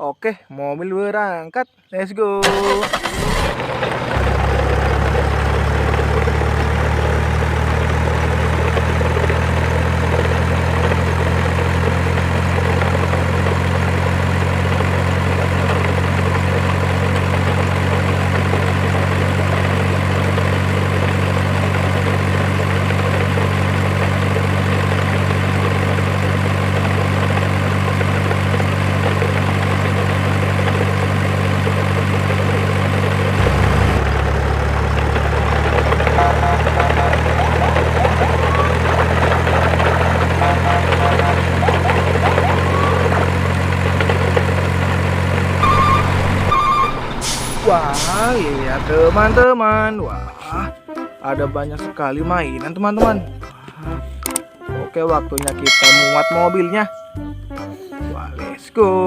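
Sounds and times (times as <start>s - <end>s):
heavy truck engine running: 2.4s - 49.5s, 55.2s - 58.3s.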